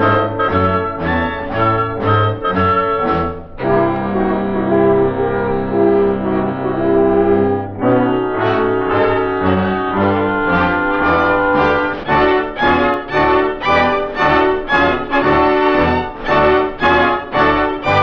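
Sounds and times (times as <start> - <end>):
orchestral music led by brass: 0.0 - 18.0.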